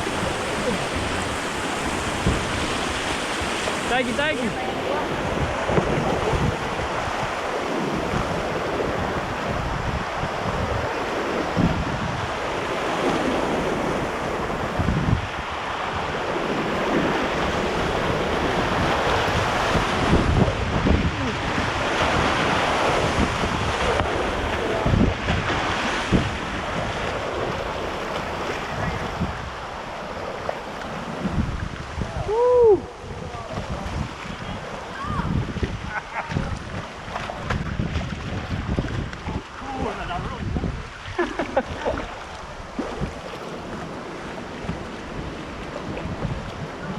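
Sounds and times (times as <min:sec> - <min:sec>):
whitewater rapids rushing: 0:00.0 - 0:46.9
wind buffeting microphone: 0:00.0 - 0:46.9.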